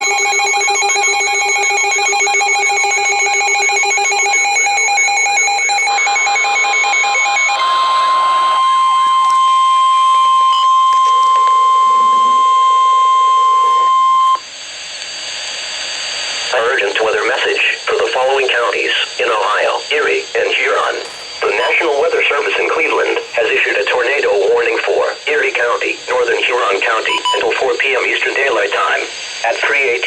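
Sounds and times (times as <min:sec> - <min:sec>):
pulsing warbling electronic alarm: 0:00.0 - 0:14.4, 0:16.5 - 0:25.7, 0:26.4 - 0:27.7
steady single-pitch alarm tone: 0:00.0 - 0:14.8, 0:15.5 - 0:25.6, 0:26.8 - 0:27.6.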